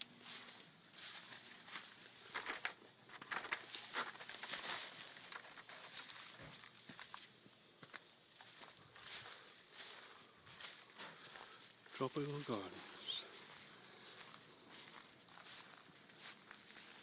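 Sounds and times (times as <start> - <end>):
footsteps walking outdoors: 0.0 - 17.0.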